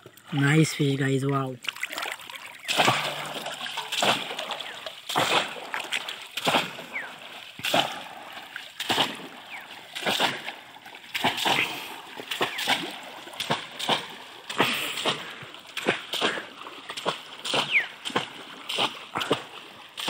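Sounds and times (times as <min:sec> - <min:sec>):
basket splashing into water: 0:01.6 - 0:20.0.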